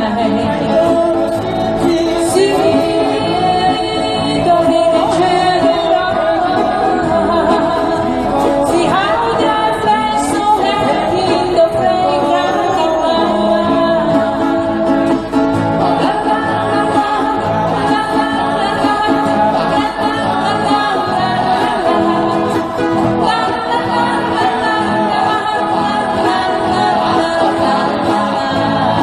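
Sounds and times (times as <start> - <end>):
acoustic guitar: 0.0 - 29.0
person singing: 0.0 - 29.0.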